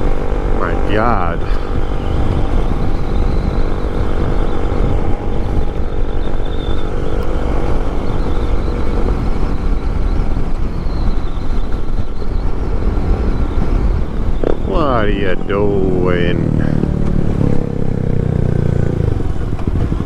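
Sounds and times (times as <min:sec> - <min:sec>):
motorcycle engine cruising: 0:00.0 - 0:20.0
wind rumble on microphone: 0:00.0 - 0:20.0.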